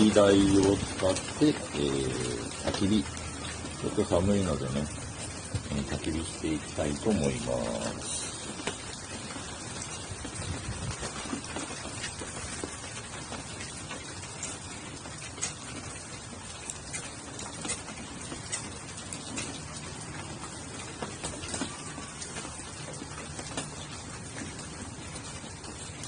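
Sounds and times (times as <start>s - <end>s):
raindrops tapping: 0.0s - 26.0s
steady rain hiss: 0.0s - 26.0s.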